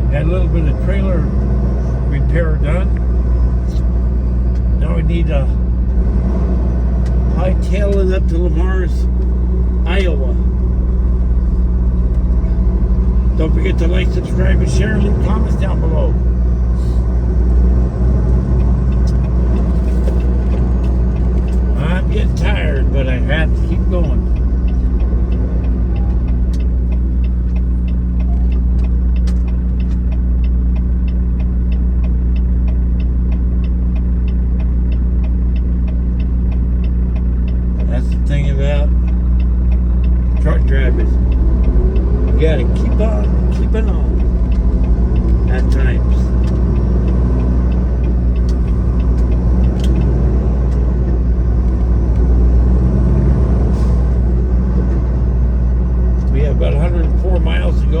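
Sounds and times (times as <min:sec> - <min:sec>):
road rumble: 0:00.0 - 0:58.0
truck engine drone: 0:00.0 - 0:58.0
light ticking: 0:06.7 - 0:55.2.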